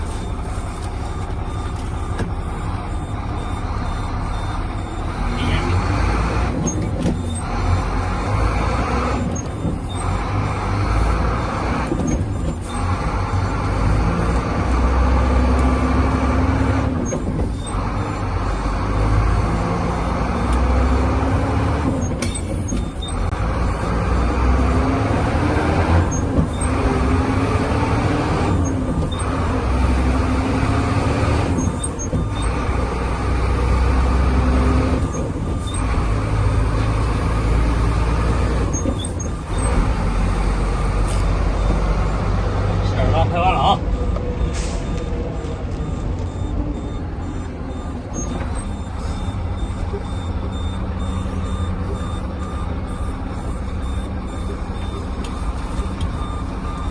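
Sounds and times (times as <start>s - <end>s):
diesel truck engine revving: 0.0s - 56.9s.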